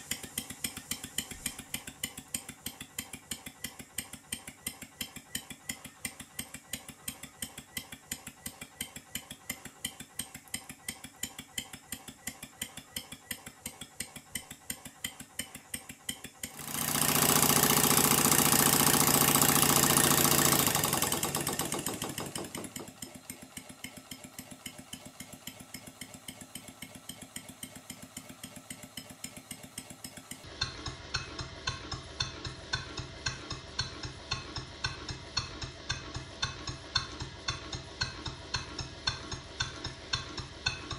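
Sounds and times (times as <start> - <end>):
model steam engine puffing and clicking: 0.0 - 40.9.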